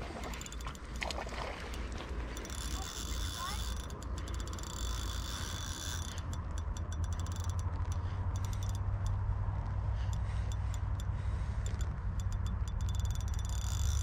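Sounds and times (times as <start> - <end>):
fishing reel clicking: 0.1 - 9.2, 10.0 - 14.0.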